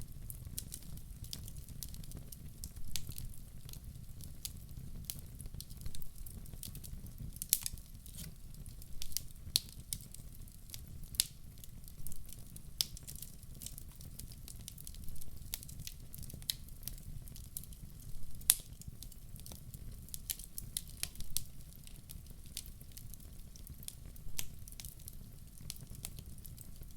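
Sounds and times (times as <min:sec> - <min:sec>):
low rumble of flames: 0:00.0 - 0:26.9
wood fire crackling: 0:00.0 - 0:26.9.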